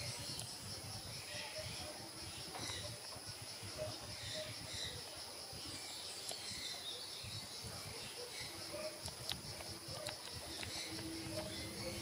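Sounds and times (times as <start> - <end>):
faint bird chirps: 0.0 - 9.0, 9.9 - 12.0.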